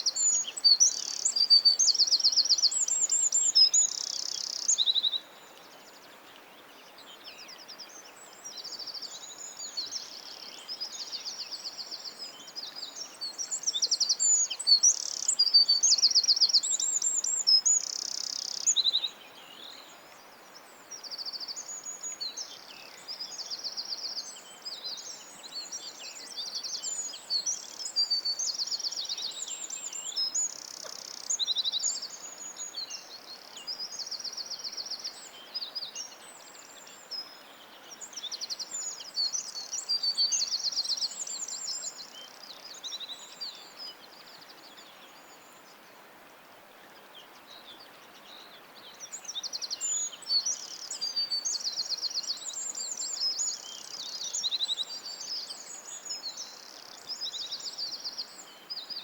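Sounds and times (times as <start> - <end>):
faint steady hiss: 0.0 - 59.0
songbirds trilling and chirping: 0.0 - 59.0.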